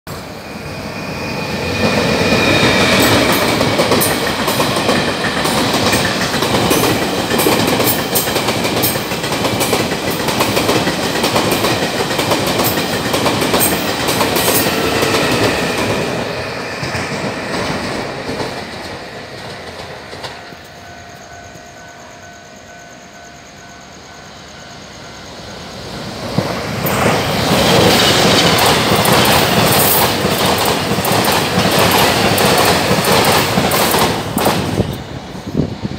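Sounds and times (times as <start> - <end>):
train rumbling and clattering: 0.1 - 35.9.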